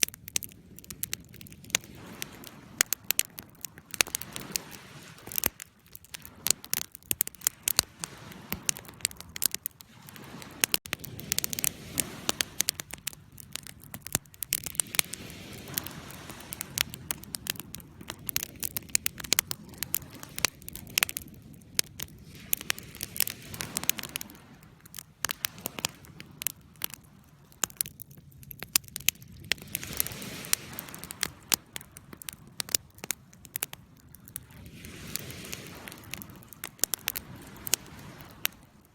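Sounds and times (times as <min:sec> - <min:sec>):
fire crackling and popping: 0:00.0 - 0:38.9
rush of flames: 0:00.0 - 0:38.9.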